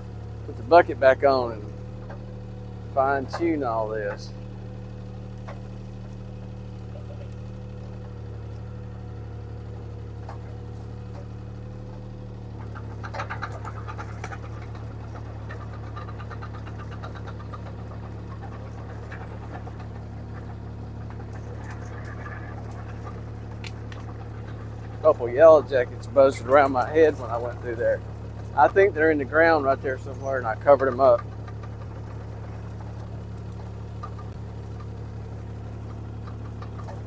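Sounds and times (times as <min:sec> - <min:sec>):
diesel engine running: 0:00.0 - 0:37.0
machine clattering and rattling: 0:00.2 - 0:37.0.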